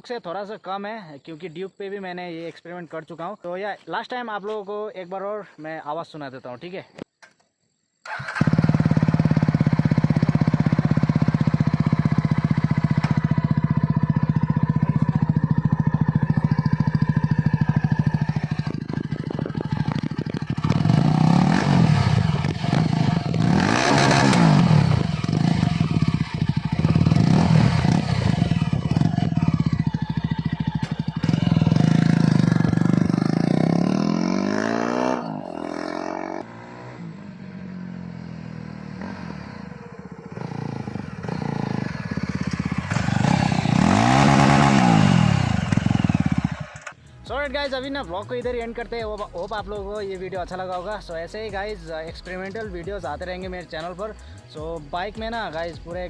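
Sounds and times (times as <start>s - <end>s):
motorcycle engine idling and revving: 8.1s - 47.4s, 48.4s - 56.0s.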